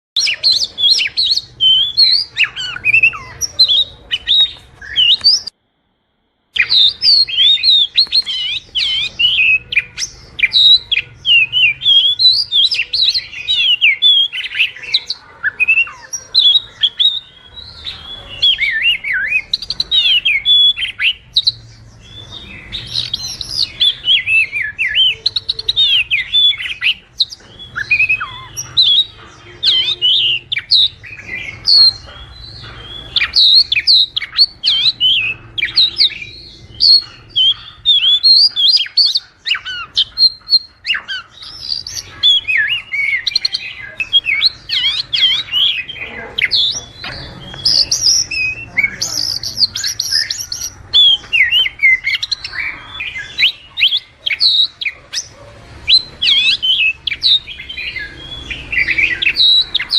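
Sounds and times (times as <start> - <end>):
bird singing whistles and chirps: 0.2 - 5.6, 6.6 - 59.9.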